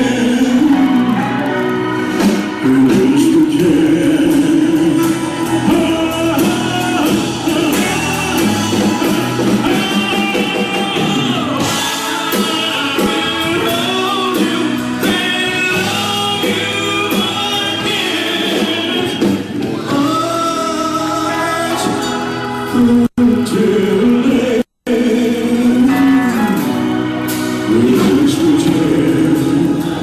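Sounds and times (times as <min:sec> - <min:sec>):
guitar: 0:00.0 - 0:30.0
live band playing a rock ballad: 0:00.0 - 0:30.0
person singing: 0:00.0 - 0:30.0.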